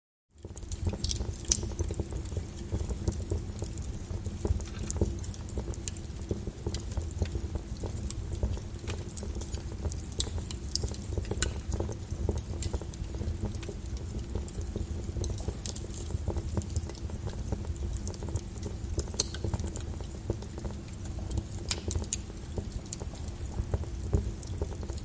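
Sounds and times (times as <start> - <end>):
fire pops and snaps: 0.4 - 25.0
low fire rumble: 0.4 - 25.0.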